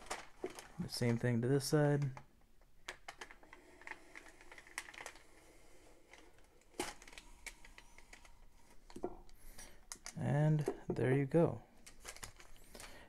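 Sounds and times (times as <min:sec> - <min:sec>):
paper crinkling: 0:00.0 - 0:02.2, 0:02.8 - 0:10.2, 0:11.8 - 0:13.0.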